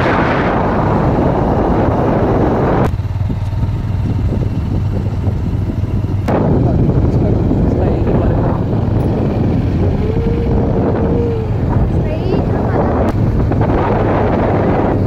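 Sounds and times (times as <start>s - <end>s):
vehicle engine drone: 0.0s - 15.0s
wind rushing over microphone: 0.0s - 15.0s.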